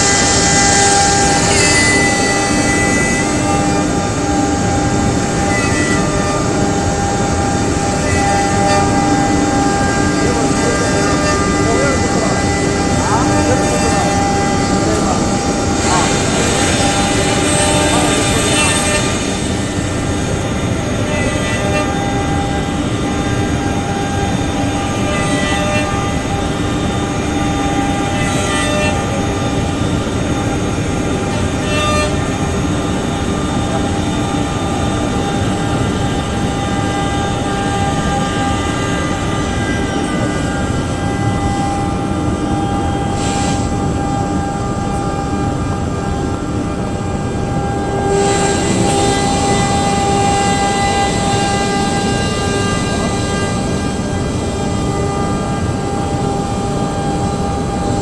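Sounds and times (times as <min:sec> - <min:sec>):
cnc router whining: 0:00.0 - 0:58.0.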